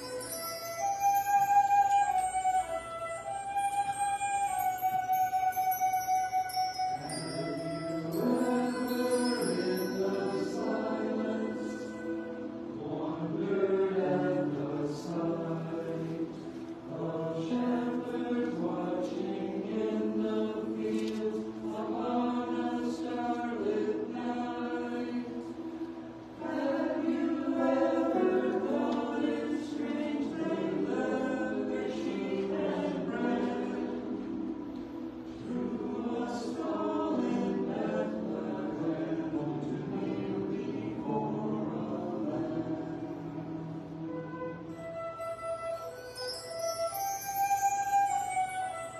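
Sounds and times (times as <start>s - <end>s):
choir singing: 0.0s - 47.3s.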